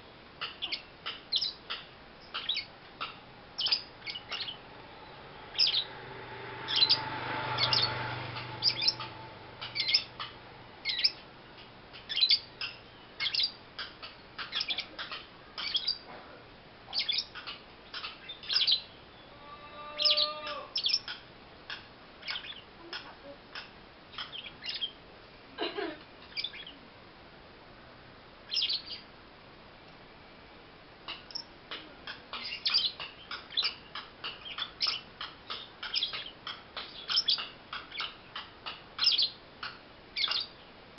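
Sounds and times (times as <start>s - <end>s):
lovebird chirping: 0.4s - 6.0s, 6.7s - 11.2s, 12.0s - 16.1s, 16.9s - 25.0s, 26.2s - 26.8s, 28.5s - 29.1s, 31.1s - 40.7s.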